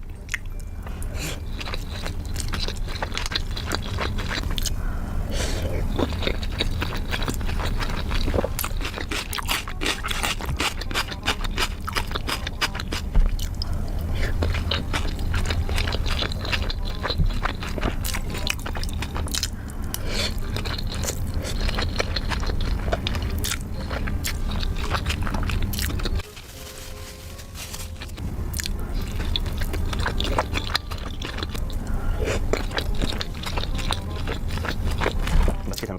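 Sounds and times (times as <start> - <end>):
chewing and biting: 0.0 - 26.3, 27.9 - 35.9
steady low hum: 0.0 - 35.9.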